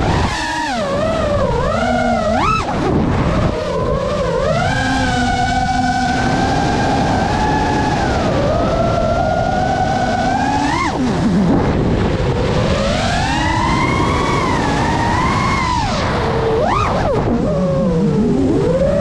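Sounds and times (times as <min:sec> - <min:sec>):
propeller and wind rush: 0:00.0 - 0:19.0
quadcopter motors whining: 0:00.0 - 0:19.0.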